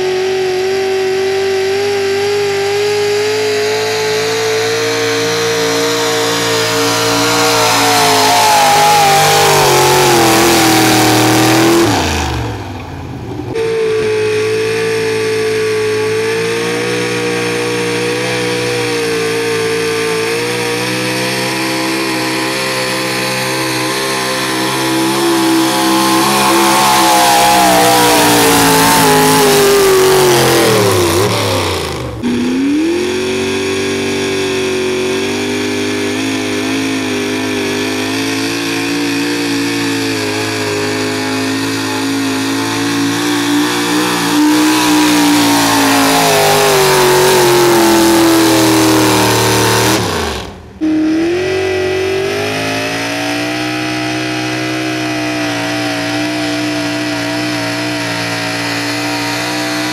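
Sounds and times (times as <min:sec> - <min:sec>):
truck engine running flat out: 0:00.0 - 0:59.9.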